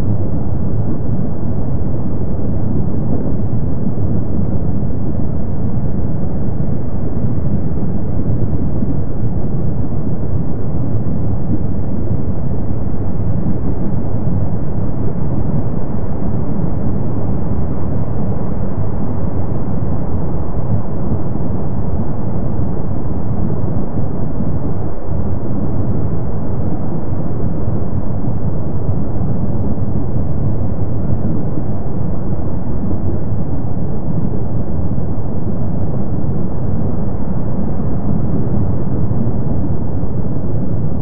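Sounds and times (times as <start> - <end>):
lava eruption low rumble: 0.0 - 41.0.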